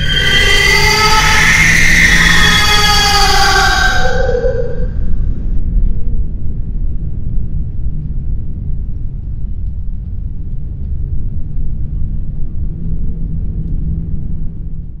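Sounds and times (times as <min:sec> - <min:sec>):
faint hum: 0:00.0 - 0:15.0
loud low rumble: 0:00.0 - 0:15.0.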